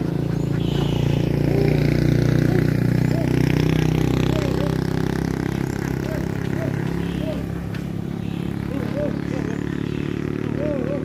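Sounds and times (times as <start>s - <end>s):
ducks quacking: 0.0s - 4.8s, 5.8s - 10.0s
vehicle engine running: 0.0s - 11.0s.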